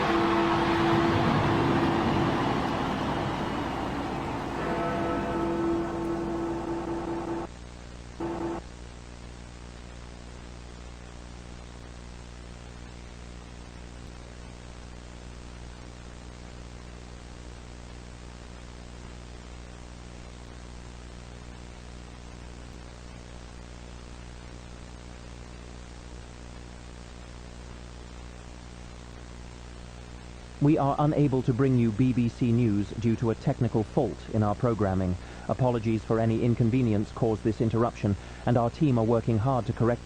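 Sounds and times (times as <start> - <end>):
low electrical mains hum: 0.0 - 40.0
static hiss: 0.0 - 40.0.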